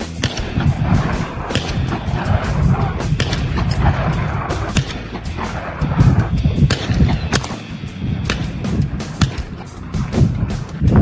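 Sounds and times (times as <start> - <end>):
shotgun fire: 0.0 - 10.8
wind rumble on microphone: 0.2 - 11.0.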